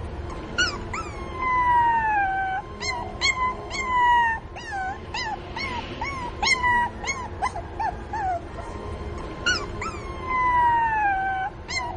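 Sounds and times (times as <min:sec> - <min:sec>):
puppy whining and crying: 0:00.3 - 0:11.9.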